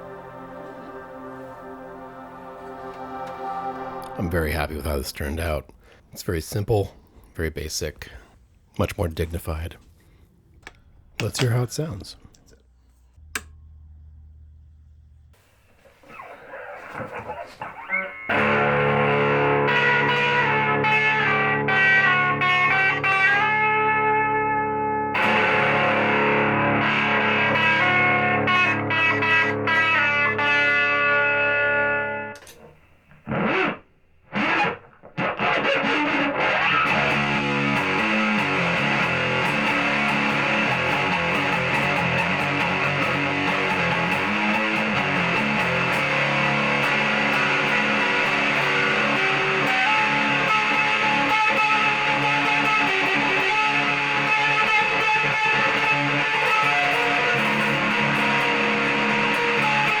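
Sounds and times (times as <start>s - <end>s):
distorted electric guitar: 0.0s - 5.6s, 15.8s - 60.0s.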